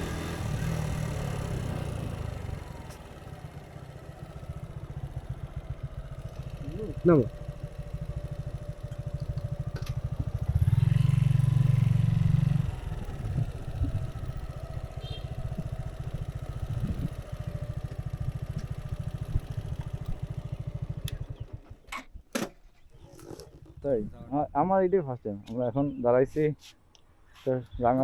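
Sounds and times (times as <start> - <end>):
motorcycle engine idling: 0.0 - 21.9, 23.0 - 24.7.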